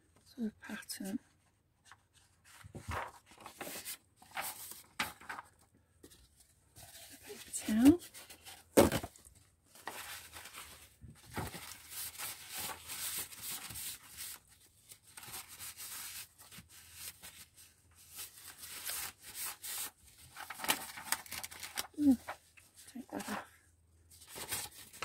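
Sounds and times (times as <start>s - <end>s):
paper rustling: 1.8s - 23.4s, 24.1s - 25.0s.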